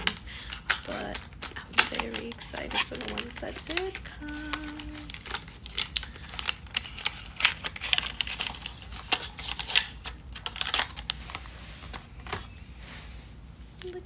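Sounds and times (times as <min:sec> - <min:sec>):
packaging clicks taps and crinkles: 0:00.0 - 0:12.5.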